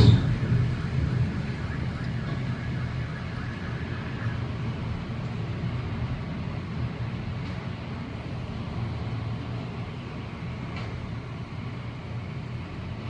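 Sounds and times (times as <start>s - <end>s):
storm wind rumbling: 0.0s - 13.0s.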